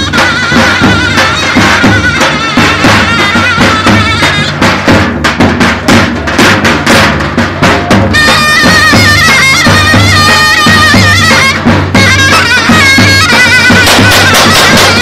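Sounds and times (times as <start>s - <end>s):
reed pipe melody: 0.0s - 5.2s, 6.2s - 15.0s
drum strokes: 0.0s - 15.0s.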